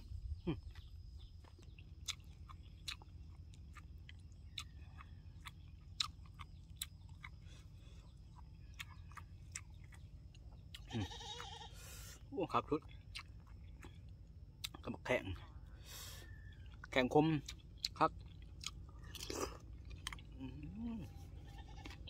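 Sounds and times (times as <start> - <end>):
person chewing wet food: 0.0 - 22.0.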